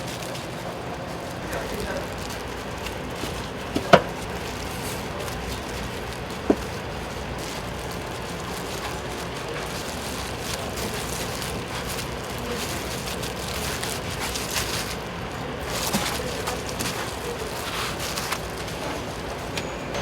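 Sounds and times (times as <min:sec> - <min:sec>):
street food stall hiss: 0:00.0 - 0:20.0.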